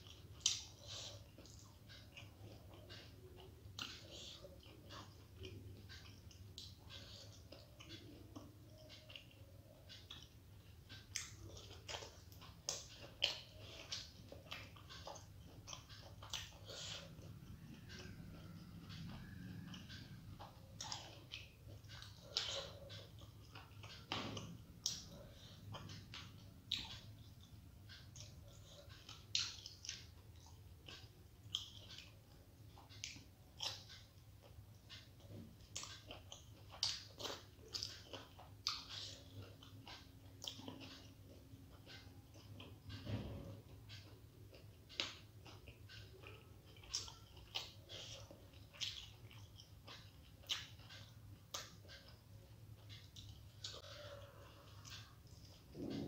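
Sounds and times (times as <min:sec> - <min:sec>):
close-up chewing clicks: 0:00.0 - 0:56.0.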